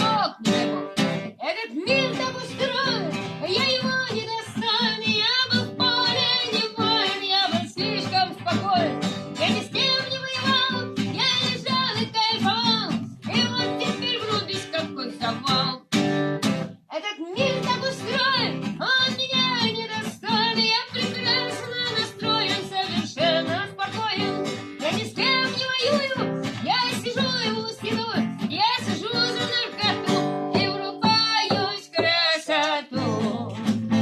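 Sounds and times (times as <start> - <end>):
person singing: 0.0 - 15.9, 16.9 - 34.0
acoustic guitar: 0.0 - 34.0.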